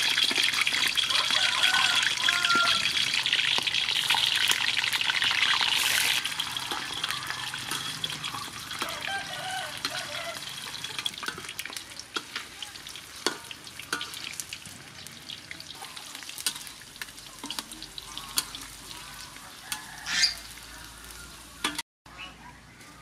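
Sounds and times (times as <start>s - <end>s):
meatballs deep-frying in oil: 0.0s - 21.8s
metal ladle stirring: 0.0s - 21.8s.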